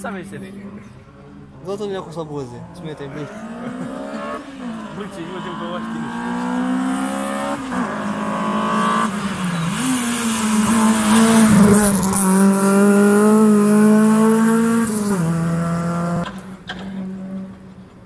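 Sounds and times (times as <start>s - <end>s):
race car engine revving: 2.6s - 17.7s.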